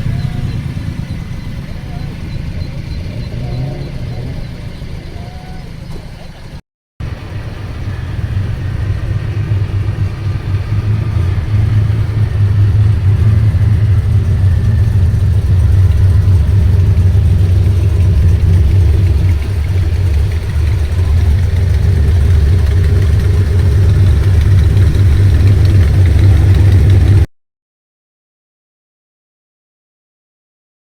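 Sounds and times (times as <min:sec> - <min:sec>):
car exhaust droning at low revs: 0:00.0 - 0:27.3.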